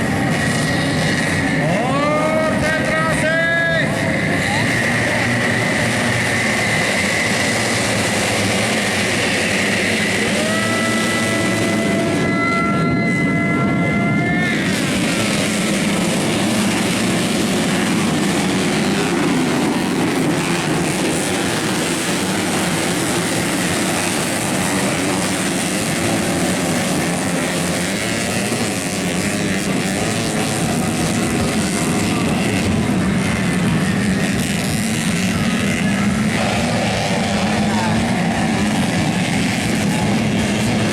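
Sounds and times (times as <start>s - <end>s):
racing motorcycle engines droning: 0.0s - 40.9s.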